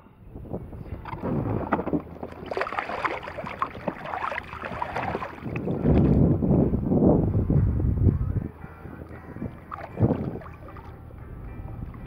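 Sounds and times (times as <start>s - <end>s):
wind rumble on microphone: 0.0s - 12.0s
water lapping against hull: 0.4s - 7.4s, 8.2s - 12.0s.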